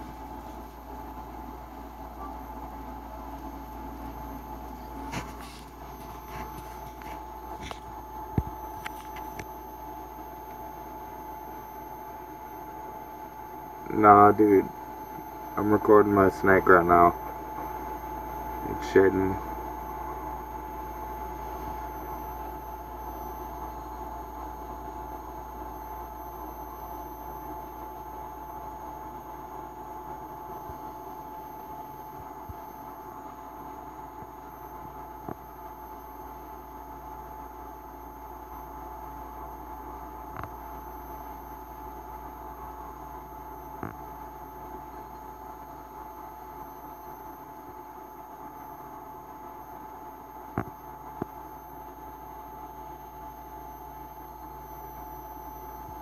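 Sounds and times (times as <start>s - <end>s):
faint constant whine: 0.0s - 56.0s
room tone hum and hiss: 0.0s - 56.0s.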